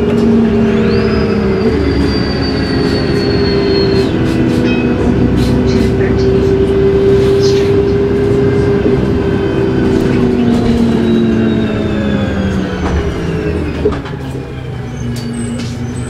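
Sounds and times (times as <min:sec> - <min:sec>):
bus engine drone and whine: 0:00.0 - 0:16.0.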